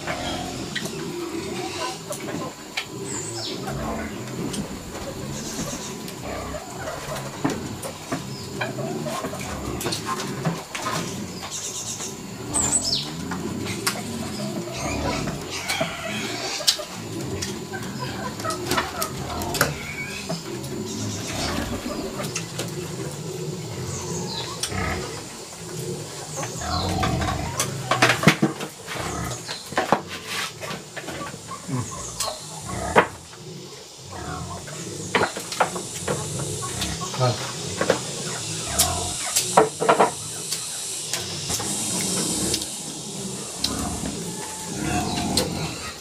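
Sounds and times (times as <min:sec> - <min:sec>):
small birds chirping: 0:00.0 - 0:28.0, 0:31.1 - 0:46.0
chickens clucking: 0:00.0 - 0:46.0.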